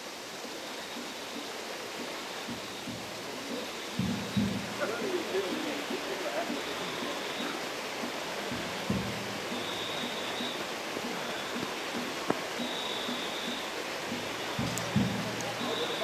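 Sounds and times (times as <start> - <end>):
crowd walking and talking: 1.1 - 16.0.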